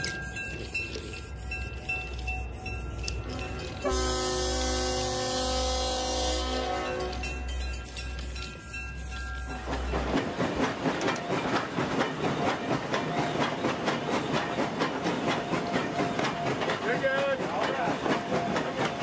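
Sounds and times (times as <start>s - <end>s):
toy train rattling on wooden track: 0.0s - 4.8s, 6.6s - 19.0s.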